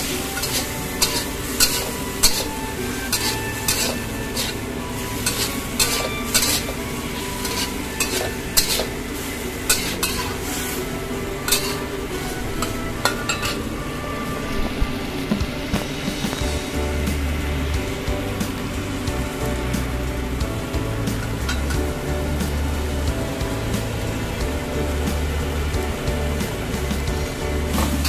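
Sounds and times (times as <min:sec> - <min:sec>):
metal spatula scraping wok: 0:00.0 - 0:24.4
vegetables sizzling in sauce: 0:00.0 - 0:28.0.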